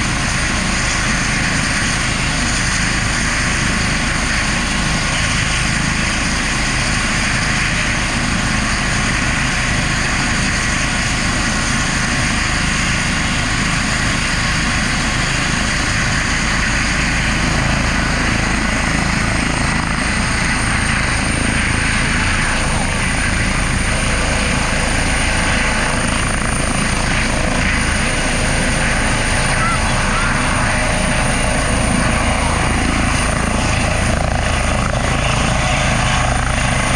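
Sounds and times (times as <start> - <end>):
helicopter rotor and turbine: 0.0 - 36.9.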